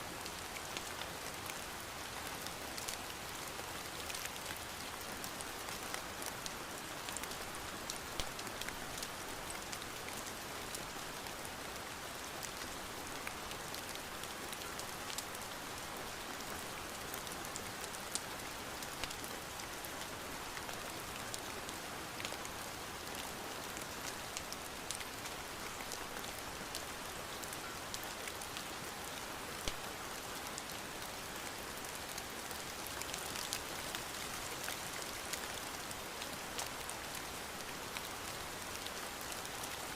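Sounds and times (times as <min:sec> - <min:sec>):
steady rain falling: 0:00.0 - 0:39.9
raindrops ticking on surface: 0:00.2 - 0:39.9.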